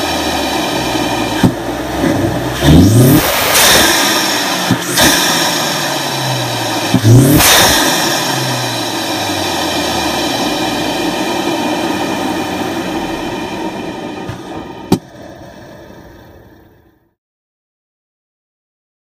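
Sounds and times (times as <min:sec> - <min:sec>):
engine intake hiss: 0:00.0 - 0:16.6
car engine revving and idling: 0:00.0 - 0:16.7.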